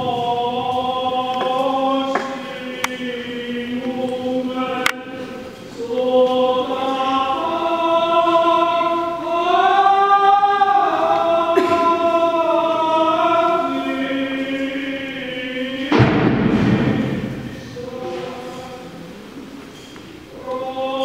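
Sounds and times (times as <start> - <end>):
choir chanting long held notes: 0.0 - 19.5, 20.3 - 21.0.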